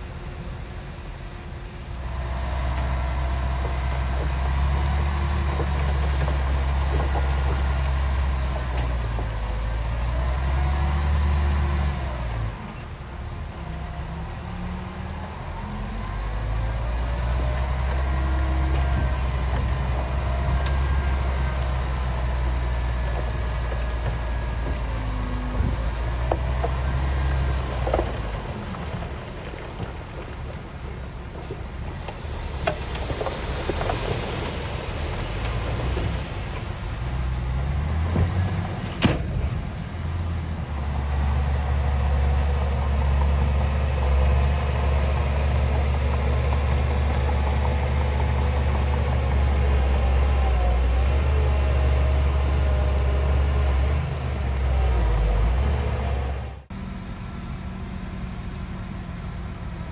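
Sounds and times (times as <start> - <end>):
heavy diesel engine working: 0.0 - 59.9.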